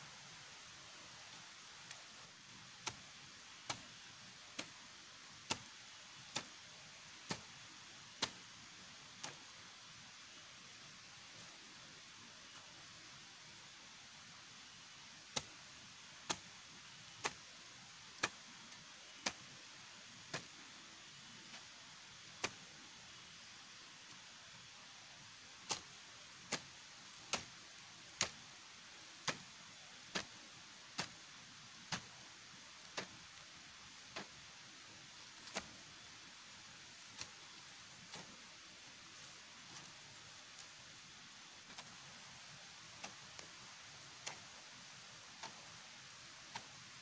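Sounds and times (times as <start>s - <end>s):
faint steady hiss: 0.0s - 47.0s.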